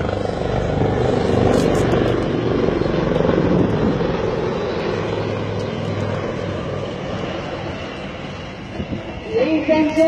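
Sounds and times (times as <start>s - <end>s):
helicopter engine hum: 0.0s - 10.0s
helicopter rotor chop: 0.0s - 10.0s.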